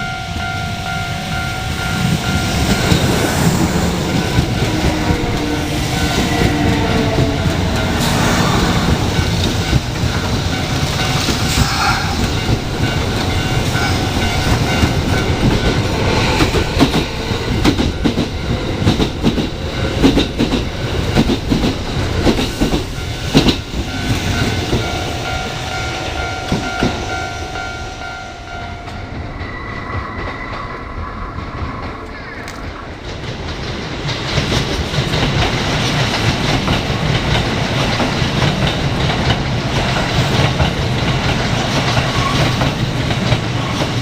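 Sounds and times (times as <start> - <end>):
train wheels clacking over rail joints: 2.0 - 25.0, 31.5 - 44.0.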